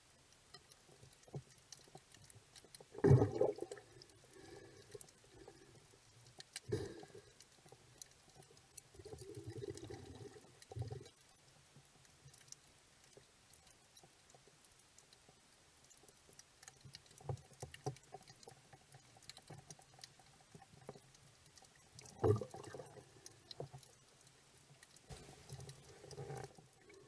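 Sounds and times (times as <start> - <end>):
faint crackling clicks underwater: 0.0 - 27.0.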